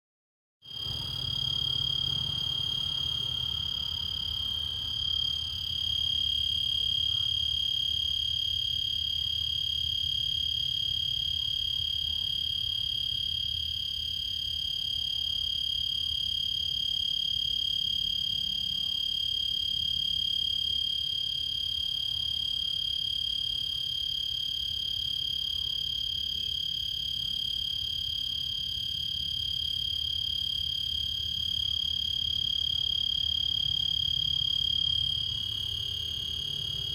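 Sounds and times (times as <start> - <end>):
cricket singing: 0.7 - 36.9.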